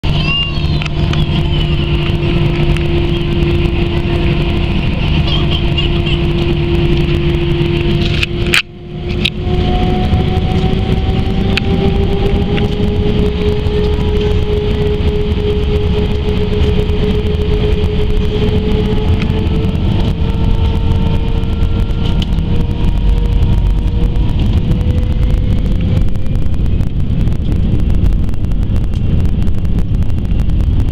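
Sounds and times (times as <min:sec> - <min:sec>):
jet engines heard from cabin: 0:00.0 - 0:30.9.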